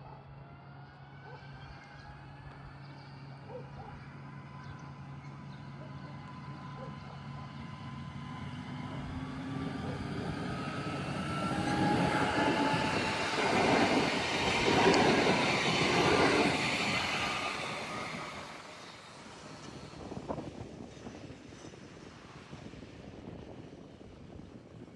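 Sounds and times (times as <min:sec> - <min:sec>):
passenger train passing: 0:02.3 - 0:24.9.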